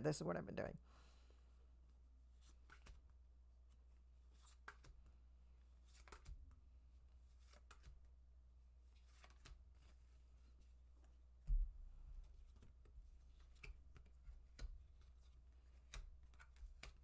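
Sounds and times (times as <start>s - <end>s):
cards flicking and rustling: 2.3s - 8.2s, 8.8s - 17.0s.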